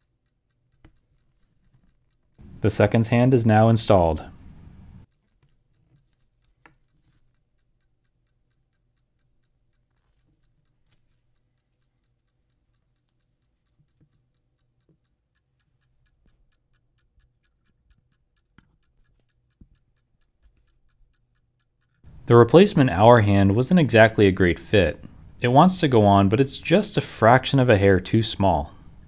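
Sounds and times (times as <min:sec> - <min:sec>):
pocket watch ticking: 0:00.0 - 0:29.0.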